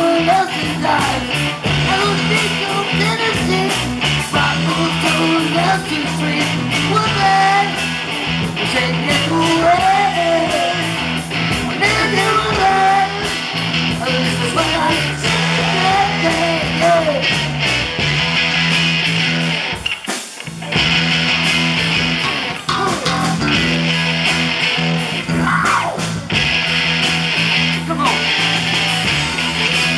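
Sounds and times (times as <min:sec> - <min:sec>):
bass guitar: 0:00.0 - 0:29.9
drums: 0:00.0 - 0:29.9
electric guitars: 0:00.0 - 0:29.9.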